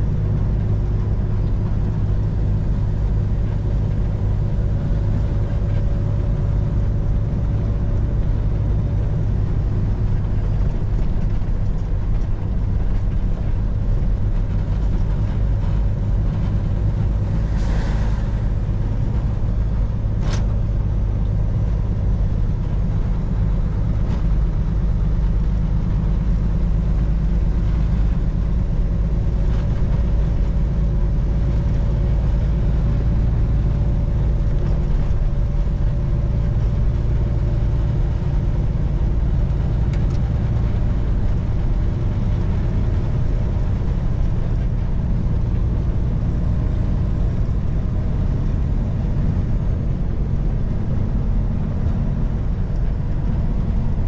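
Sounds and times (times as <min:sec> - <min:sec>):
road noise: 0:00.0 - 0:54.0
truck engine drone: 0:00.0 - 0:54.0.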